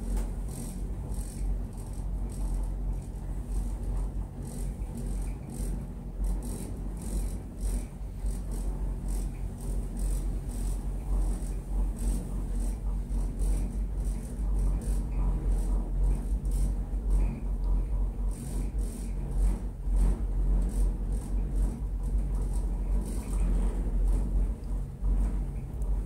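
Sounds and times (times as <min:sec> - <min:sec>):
gondola cabin rumble: 0:00.0 - 0:26.0.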